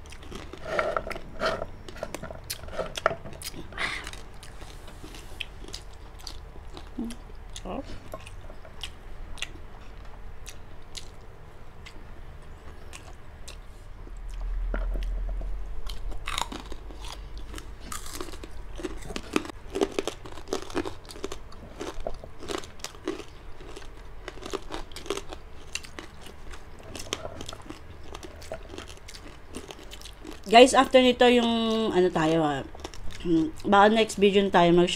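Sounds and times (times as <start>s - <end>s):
crunching and chewing crispy food: 0.0s - 34.1s.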